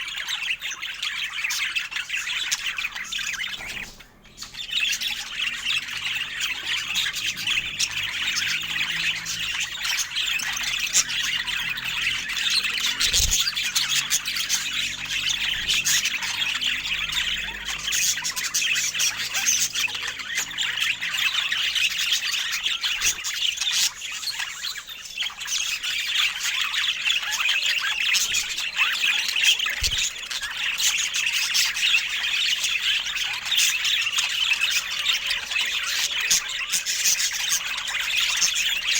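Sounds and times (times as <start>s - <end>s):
budgies chattering: 0.0s - 38.9s.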